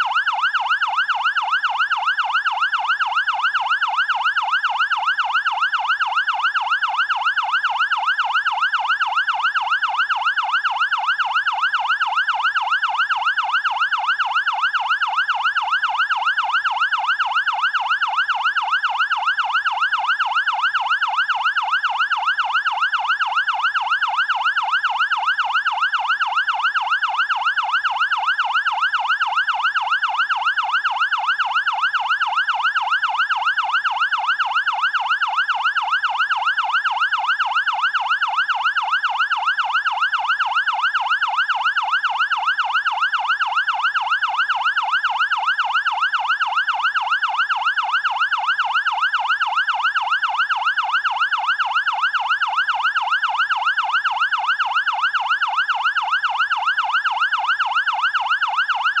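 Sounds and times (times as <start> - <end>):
fire siren yelping: 0.0 - 59.0.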